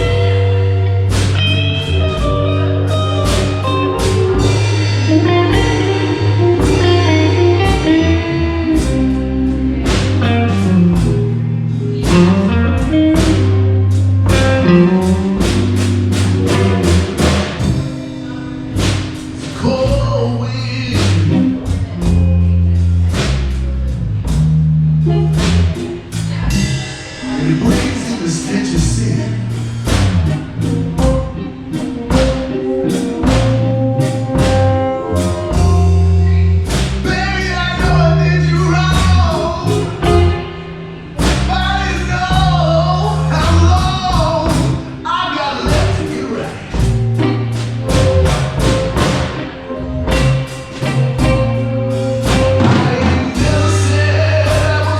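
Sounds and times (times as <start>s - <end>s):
bass line: 0.0s - 54.9s
blues guitar bending notes: 0.0s - 54.9s
drum kit beat: 0.0s - 54.9s.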